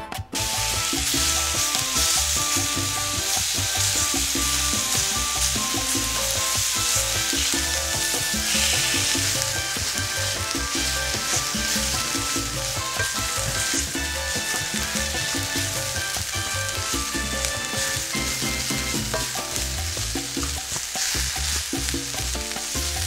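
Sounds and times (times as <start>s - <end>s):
background music: 0.0s - 23.0s
meat sizzling in a skillet: 0.4s - 23.0s
utensil stirring in a skillet: 0.4s - 23.0s.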